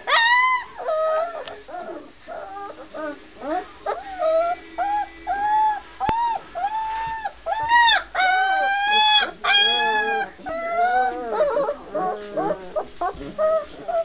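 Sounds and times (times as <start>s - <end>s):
puppies squeaking: 0.0s - 14.0s
puppies whining: 0.0s - 14.0s.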